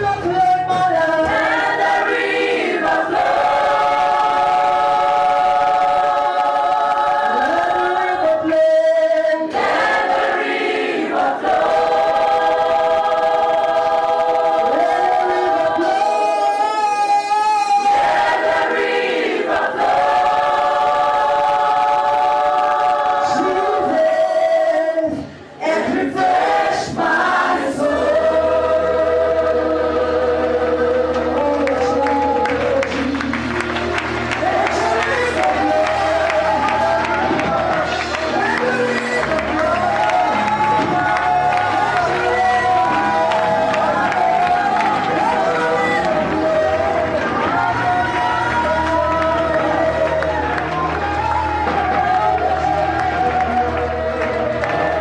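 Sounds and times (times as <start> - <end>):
choir singing held chords: 0.8 - 55.0.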